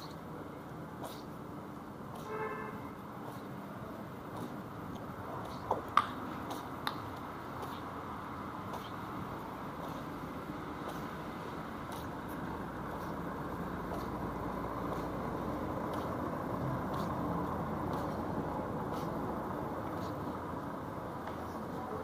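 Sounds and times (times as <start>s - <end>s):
city traffic on wet road: 0.0s - 22.0s
faint footsteps: 0.0s - 22.0s.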